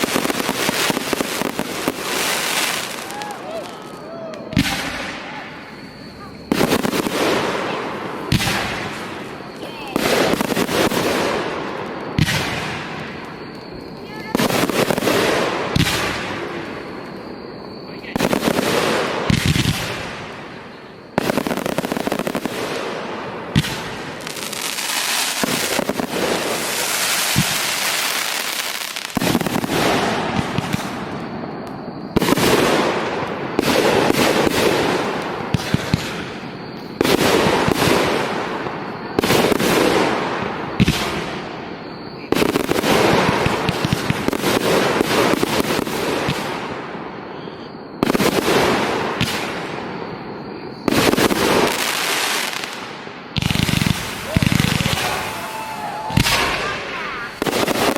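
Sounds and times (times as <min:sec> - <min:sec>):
fireworks bursts: 0:00.0 - 0:57.9
fireworks crackling hiss: 0:00.0 - 0:57.9.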